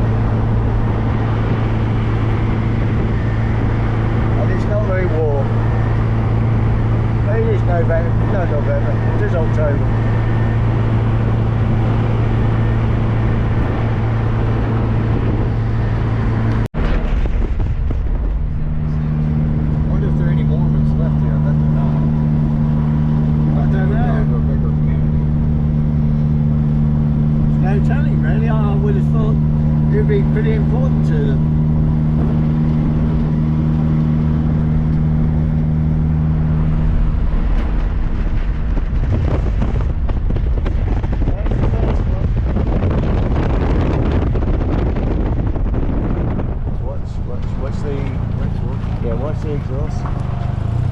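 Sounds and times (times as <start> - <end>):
car engine cruising: 0.0 - 50.9
wind and road noise: 0.0 - 50.9.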